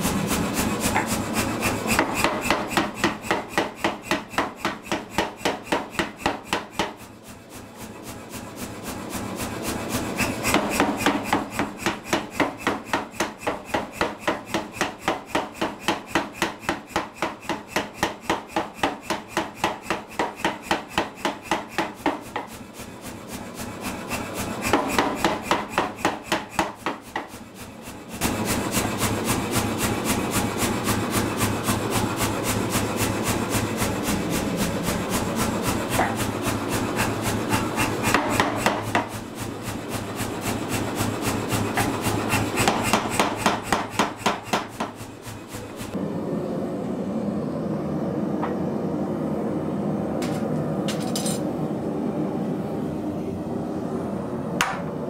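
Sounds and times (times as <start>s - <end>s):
power hammer striking hot steel: 0.0s - 46.0s, 54.6s - 54.9s.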